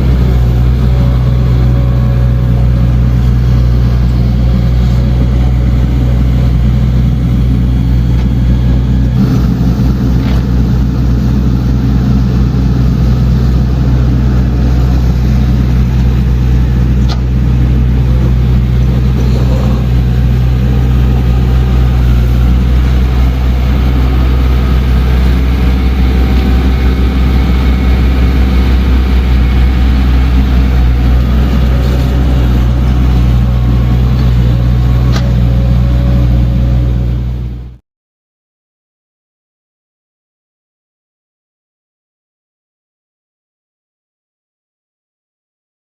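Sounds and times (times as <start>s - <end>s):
diesel excavator engine droning: 0.0s - 37.8s.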